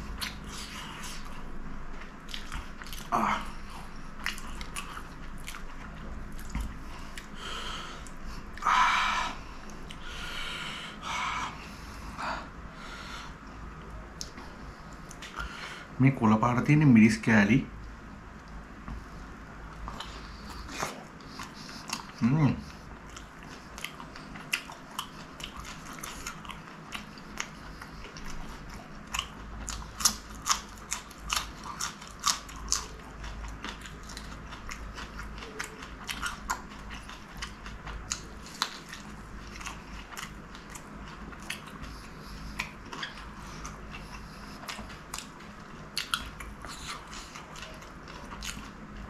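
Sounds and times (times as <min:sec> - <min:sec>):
chewing crunchy pastry: 0:00.0 - 0:10.4, 0:17.9 - 0:49.0.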